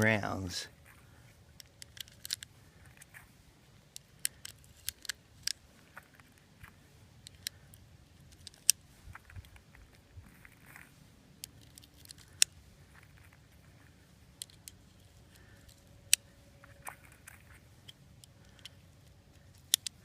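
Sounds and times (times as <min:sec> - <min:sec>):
metallic clicks of handgun handling: 0:01.5 - 0:03.2, 0:03.9 - 0:20.0.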